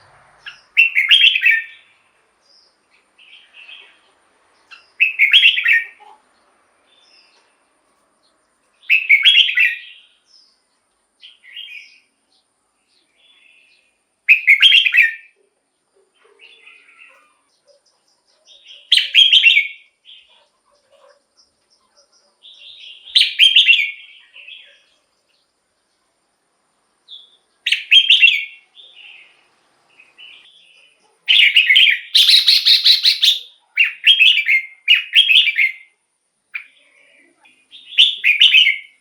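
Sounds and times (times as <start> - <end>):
bird singing song phrases: 0.0 - 7.6, 8.2 - 39.0.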